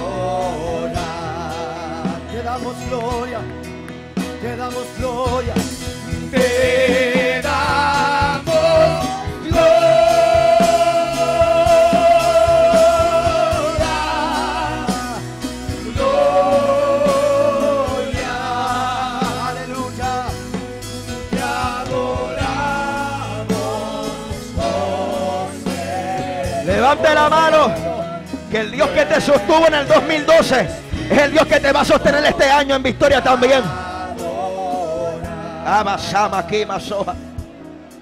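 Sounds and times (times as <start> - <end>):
gospel singing with vibrato: 0.0 - 38.0
instrumental backing: 0.0 - 38.0.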